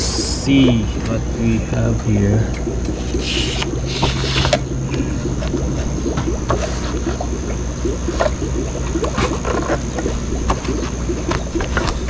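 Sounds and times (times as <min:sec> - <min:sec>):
steady low hum: 0:00.0 - 0:12.0
water bubbling and gurgling: 0:00.0 - 0:12.0.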